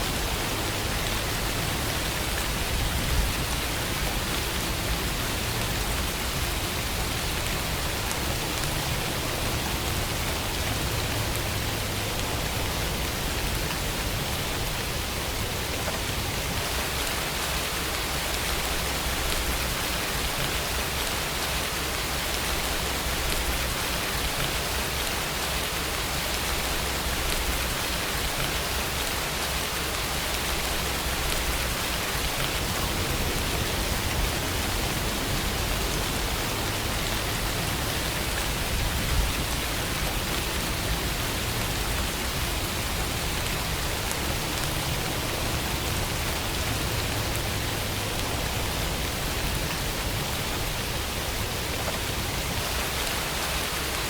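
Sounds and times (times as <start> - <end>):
rain falling on surfaces: 0.0 - 54.0.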